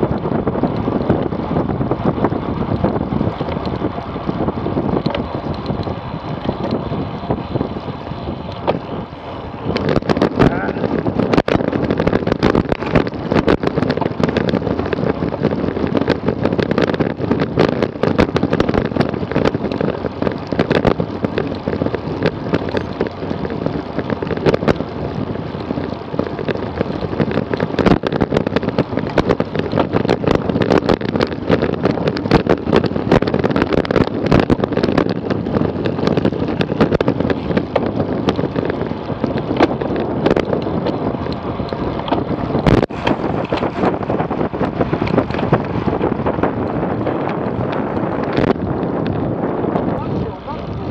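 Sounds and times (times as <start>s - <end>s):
bike clicks and knocks: 0.0s - 8.9s, 9.7s - 50.6s
tyre and road rumble: 0.0s - 50.9s
wind rushing over microphone: 0.0s - 50.9s.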